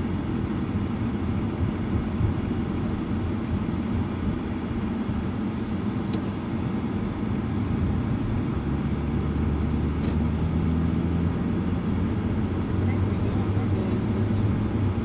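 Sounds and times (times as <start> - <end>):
car tyres and engine rumble: 0.0 - 15.0.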